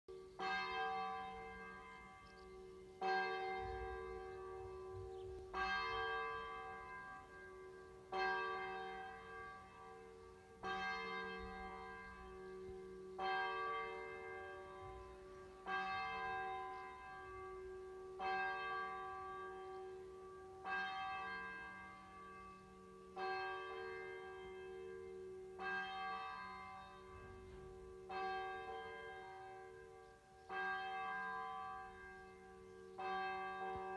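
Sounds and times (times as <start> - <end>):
church bell tolling: 0.1 - 33.9.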